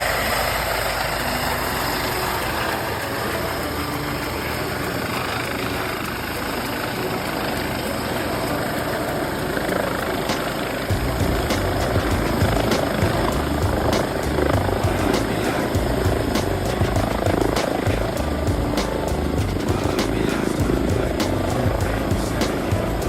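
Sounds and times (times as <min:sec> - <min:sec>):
helicopter rotor and turbine engine: 0:00.0 - 0:23.0.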